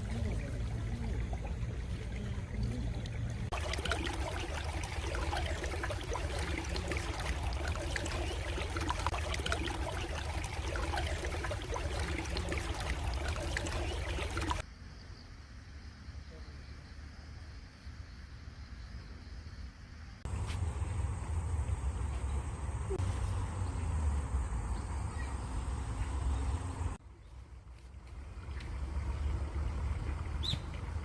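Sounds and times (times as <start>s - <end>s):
stream of water trickling: 0.0s - 14.7s, 20.2s - 31.0s.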